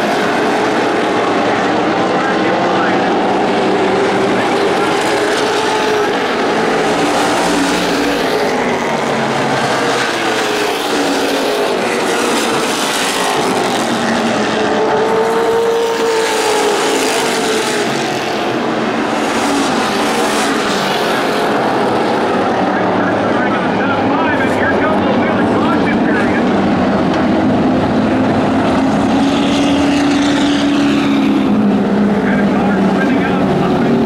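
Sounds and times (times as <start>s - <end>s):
race car engines roaring: 0.0s - 34.0s.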